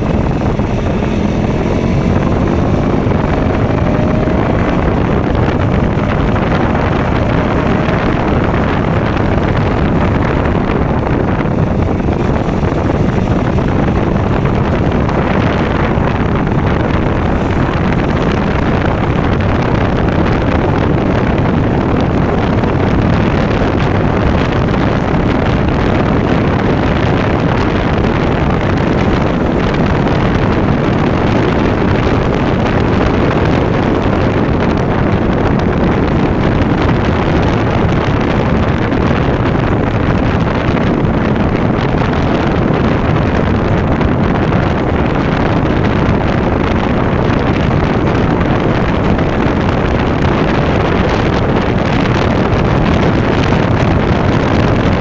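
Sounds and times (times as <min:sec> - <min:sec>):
motorcycle engine and exhaust: 0:00.0 - 0:55.0
wind noise on microphone: 0:00.0 - 0:55.0.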